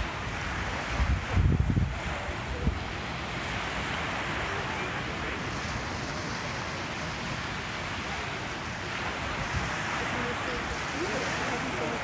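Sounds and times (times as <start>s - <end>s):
surf washing onto beach: 0.0s - 12.0s
wind on microphone: 0.0s - 12.0s.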